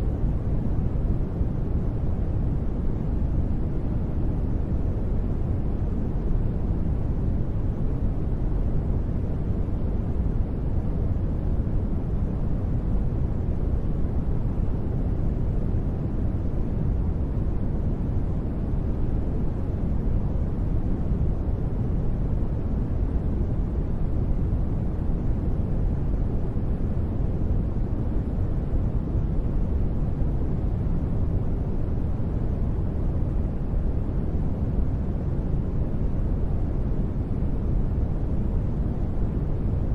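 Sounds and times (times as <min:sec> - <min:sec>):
low rumbling white noise: 0:00.0 - 0:39.9.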